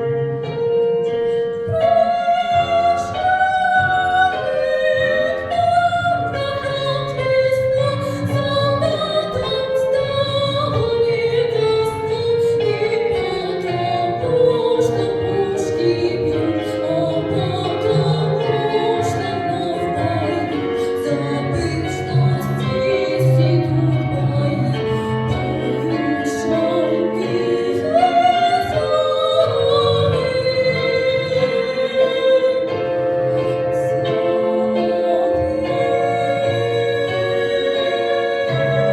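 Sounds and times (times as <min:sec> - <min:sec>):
instrumental accompaniment: 0:00.0 - 0:38.9
woman singing slow song: 0:00.0 - 0:38.9.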